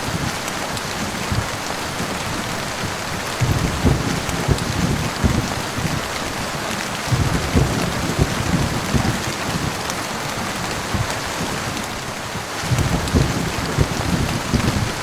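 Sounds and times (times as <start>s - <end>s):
heavy rain: 0.0s - 15.0s
low thunder rumble: 0.0s - 15.0s.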